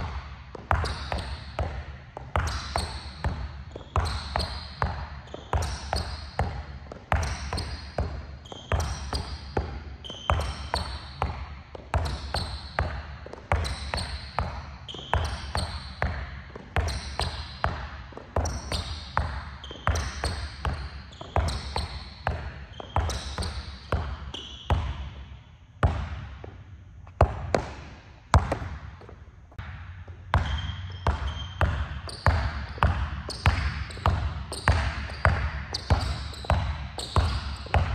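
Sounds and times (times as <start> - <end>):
basketball dribbling on court: 0.0 - 25.2, 25.8 - 37.9
sneakers squeaking on floor: 0.0 - 37.9.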